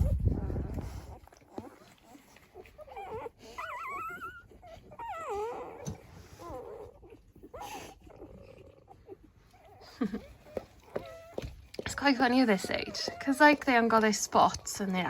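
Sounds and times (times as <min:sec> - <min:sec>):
puppies squeaking and whimpering: 0:00.0 - 0:15.0.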